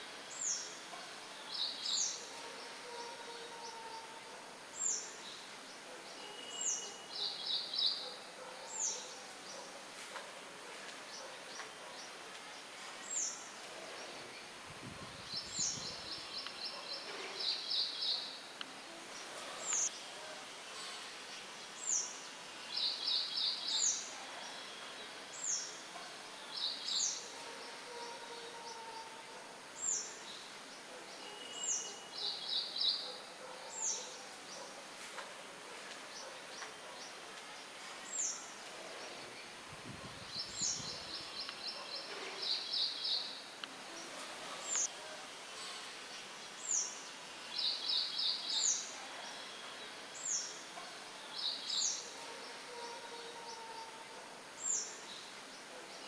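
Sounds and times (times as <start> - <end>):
songbirds chirping: 0.0 - 56.0
wind through leaves: 0.0 - 56.0.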